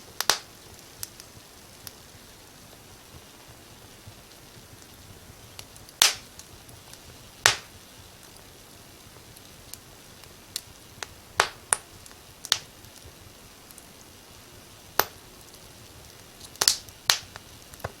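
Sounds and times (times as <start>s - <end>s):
faint steady hiss: 0.0s - 18.0s
firewood crackling and popping: 0.0s - 18.0s.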